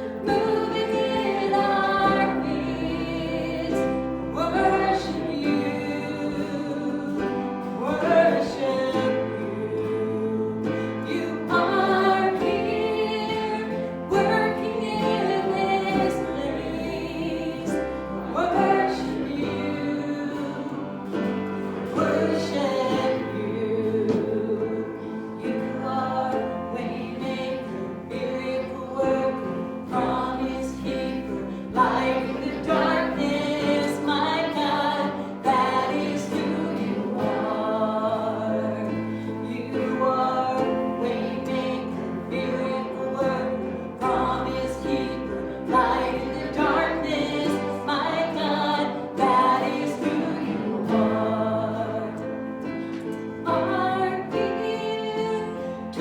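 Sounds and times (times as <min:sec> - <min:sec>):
group of voices singing: 0:00.0 - 0:56.0
instrumental accompaniment: 0:00.0 - 0:56.0.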